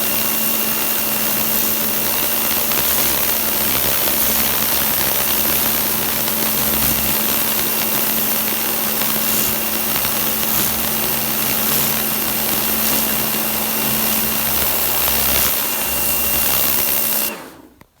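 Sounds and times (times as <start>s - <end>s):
water jet spraying stone: 0.0s - 17.3s
pressure washer motor hum: 0.0s - 17.8s.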